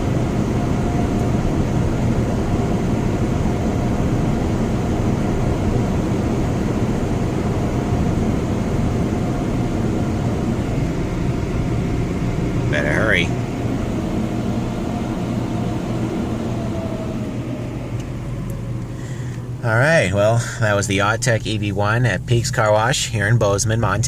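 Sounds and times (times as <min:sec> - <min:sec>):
air dryer blowers rushing: 0:00.0 - 0:24.0
faint steady whine: 0:00.0 - 0:24.0.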